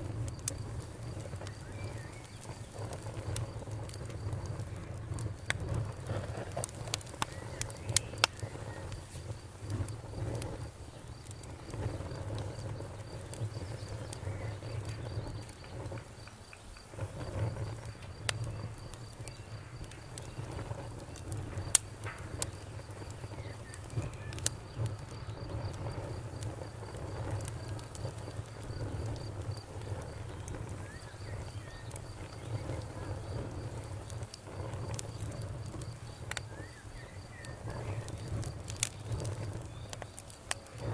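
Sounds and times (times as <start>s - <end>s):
campfire crackling and popping: 0.0s - 40.9s
insect chirping: 0.0s - 40.9s.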